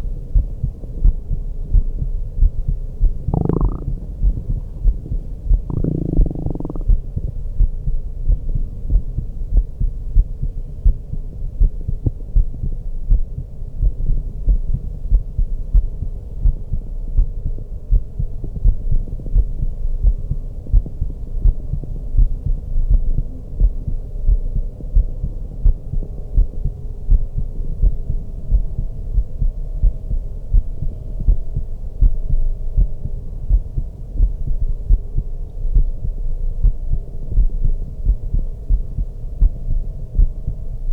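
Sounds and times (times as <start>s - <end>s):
faint steady hum: 0.0s - 40.9s
heartbeat thumps: 0.3s - 40.9s.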